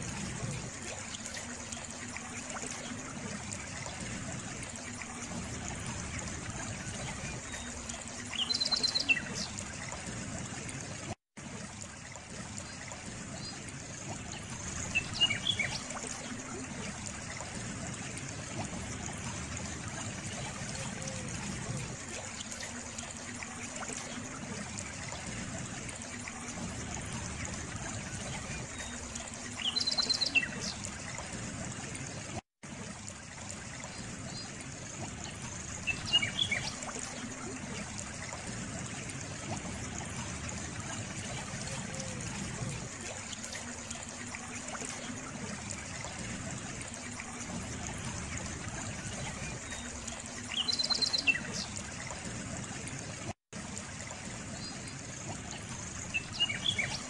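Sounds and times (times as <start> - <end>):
stream flowing and trickling: 0.0 - 57.0.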